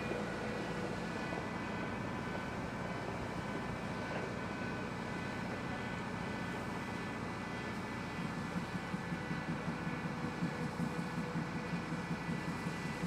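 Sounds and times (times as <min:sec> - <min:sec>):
faint steady tones: 0:00.0 - 0:13.0.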